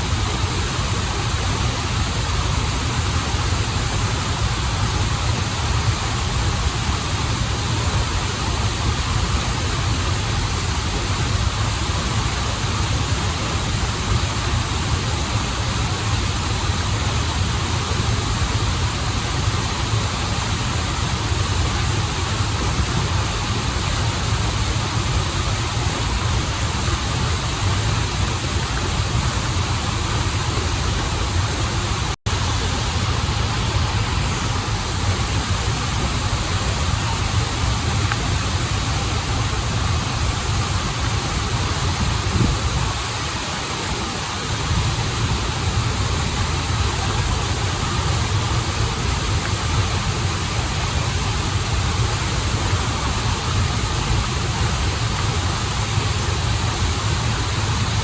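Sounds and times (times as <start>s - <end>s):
waterfall and flowing stream: 0.0s - 58.0s.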